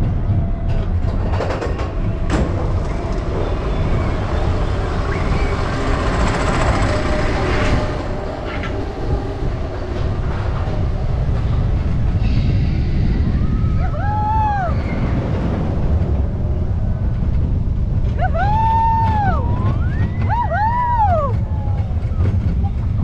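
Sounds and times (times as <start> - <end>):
roller coaster rumbling on track: 0.0 - 23.0.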